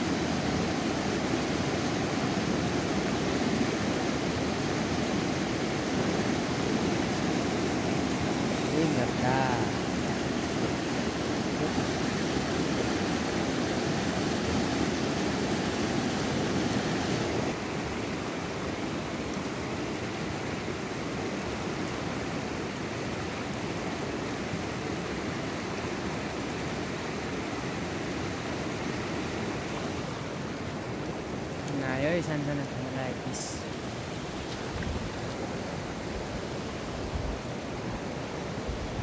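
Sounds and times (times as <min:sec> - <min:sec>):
water rushing over rocks: 0:00.0 - 0:39.0.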